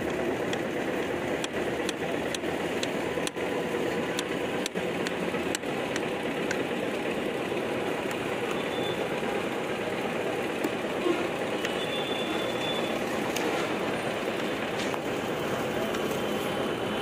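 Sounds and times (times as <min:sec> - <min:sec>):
street noise hum: 0:00.0 - 0:17.0.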